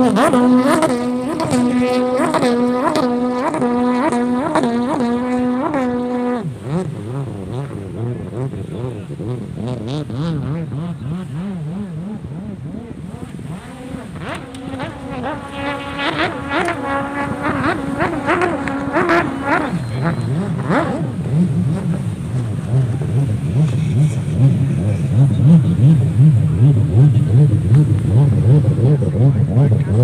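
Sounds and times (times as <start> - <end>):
higher steady engine note: 0.0 - 30.0
jet ski engines revving: 0.0 - 30.0.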